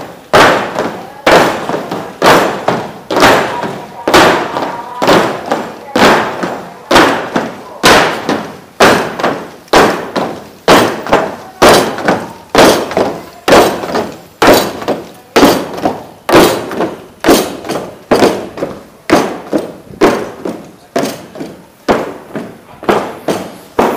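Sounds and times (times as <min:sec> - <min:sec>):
boots marching on wooden planks: 0:00.0 - 0:23.9
footfalls on wood: 0:00.0 - 0:23.9.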